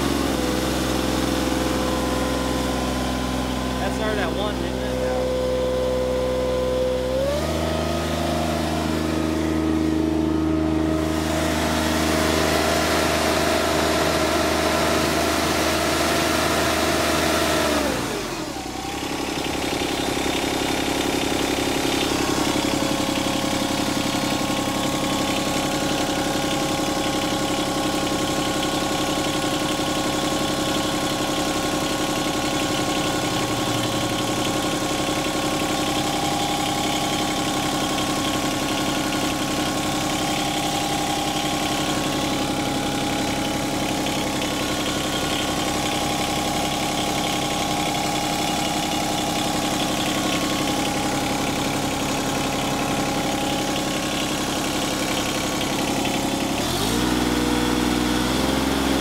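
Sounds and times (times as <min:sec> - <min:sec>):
diesel mower engine running: 0:00.0 - 0:59.0.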